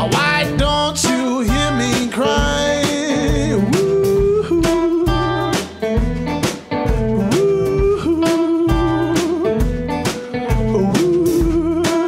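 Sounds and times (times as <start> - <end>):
electric blues band playing: 0.0 - 12.0.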